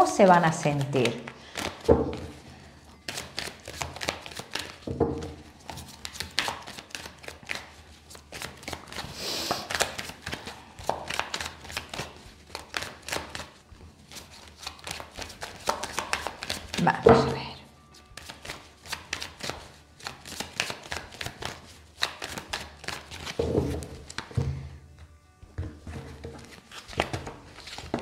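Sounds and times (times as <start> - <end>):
cards being shuffled: 0.8 - 2.4, 3.0 - 17.3, 18.0 - 24.4, 25.6 - 28.0.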